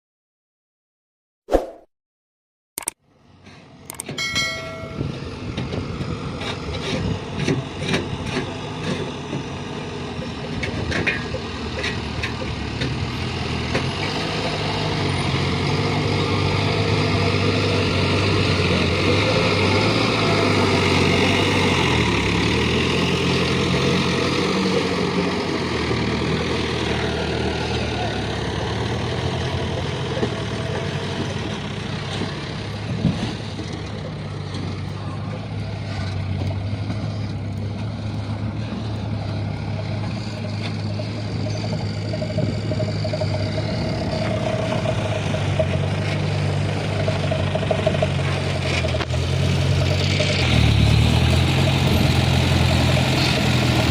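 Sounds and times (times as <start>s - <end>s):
diesel truck engine humming: 3.1s - 53.9s.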